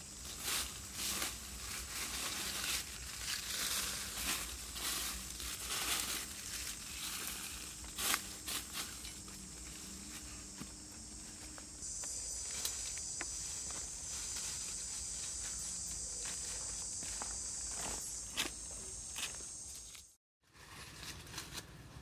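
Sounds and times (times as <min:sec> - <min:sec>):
dry leaves and twigs crunching: 0:00.0 - 0:21.8.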